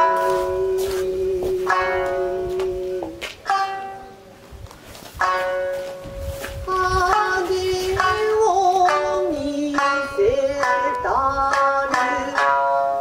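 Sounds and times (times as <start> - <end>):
person singing long sliding tones: 0.0 - 3.8, 6.2 - 13.0
plucked shamisen: 0.0 - 13.0.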